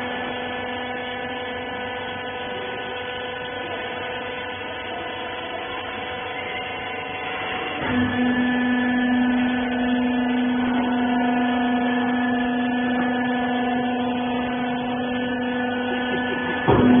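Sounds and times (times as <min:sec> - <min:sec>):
motor and pump humming: 0:00.0 - 0:17.0.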